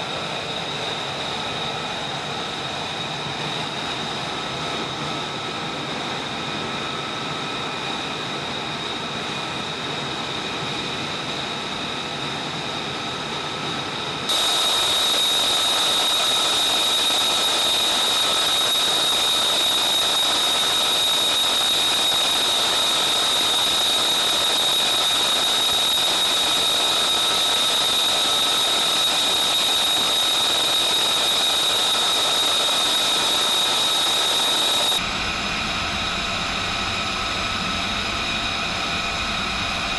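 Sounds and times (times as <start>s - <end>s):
jet engine idling whine: 0.0s - 39.9s.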